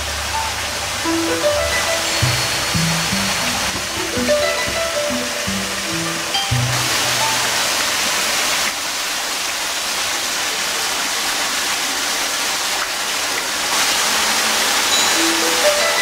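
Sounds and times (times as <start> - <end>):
waterfall rushing into pond: 0.0 - 16.0.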